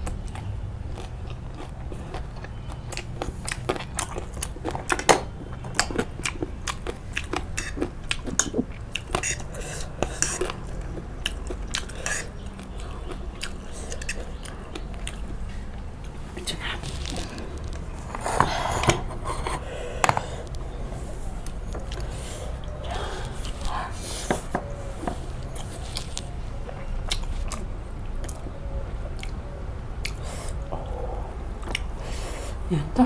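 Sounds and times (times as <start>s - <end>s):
crunchy chewing: 0.0s - 32.7s.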